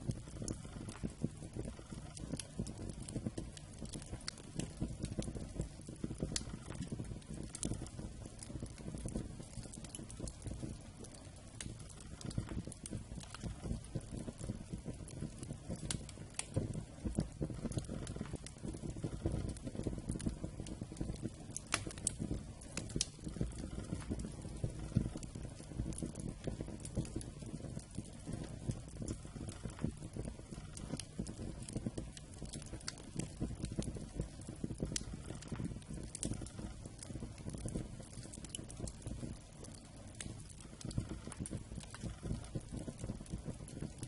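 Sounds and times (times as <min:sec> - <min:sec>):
low rumble of flames: 0:00.0 - 0:44.0
wood fire crackling and popping: 0:00.0 - 0:44.0.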